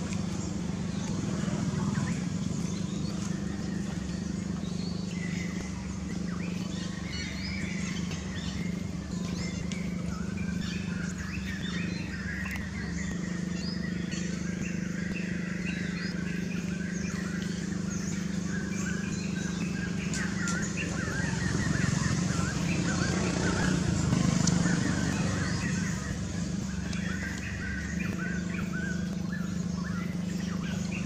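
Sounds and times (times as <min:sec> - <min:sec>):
birds chirping and twittering: 0:00.0 - 0:31.0
steady low hum: 0:00.0 - 0:31.0.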